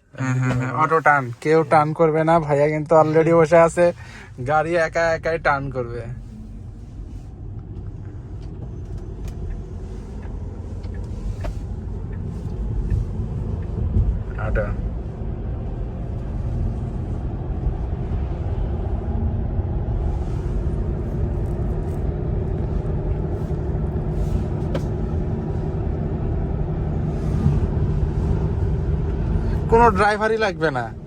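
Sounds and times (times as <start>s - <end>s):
road and tyre rumble in car cabin: 0.0s - 31.0s.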